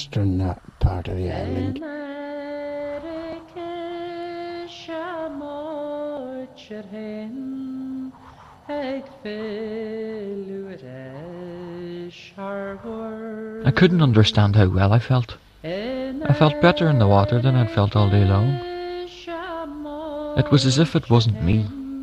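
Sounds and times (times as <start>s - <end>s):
person singing unaccompanied: 0.0s - 14.9s, 15.6s - 22.0s.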